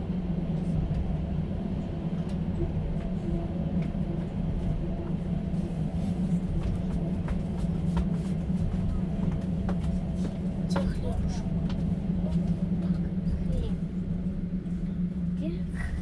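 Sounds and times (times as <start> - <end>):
train rumble and drone: 0.0 - 16.0.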